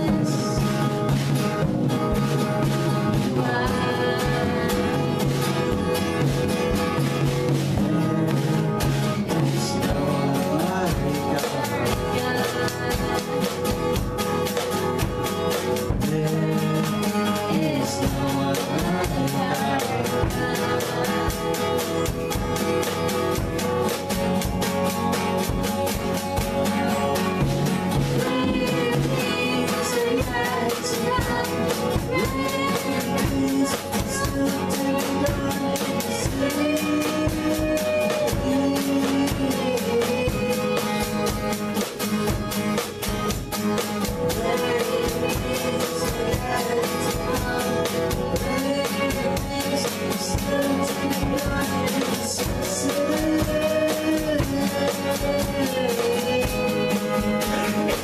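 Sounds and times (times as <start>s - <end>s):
man singing: 0.0s - 58.0s
strummed acoustic guitar: 0.0s - 58.0s.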